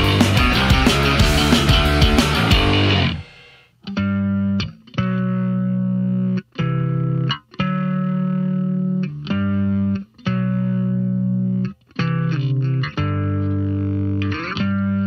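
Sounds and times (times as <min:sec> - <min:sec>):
background music held chords: 0:00.0 - 0:15.0.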